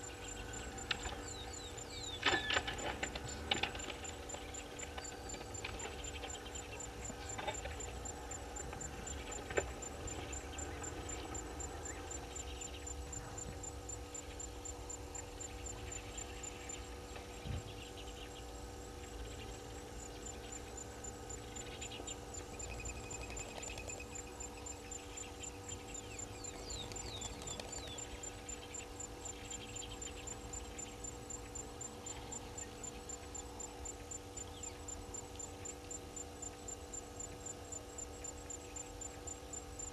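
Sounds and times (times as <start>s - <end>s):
bird calls: 0.0s - 14.5s, 15.2s - 33.7s
electrical hum: 0.0s - 39.9s.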